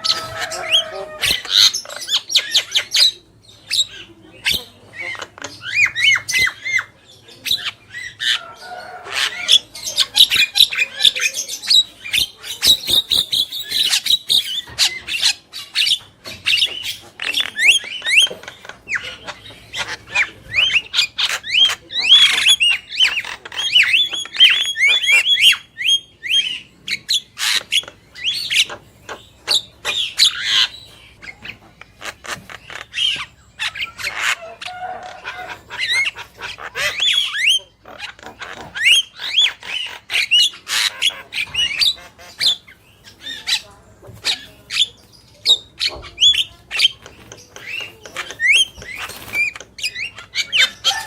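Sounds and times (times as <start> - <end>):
mynas squawking and chattering: 0.0 - 51.0.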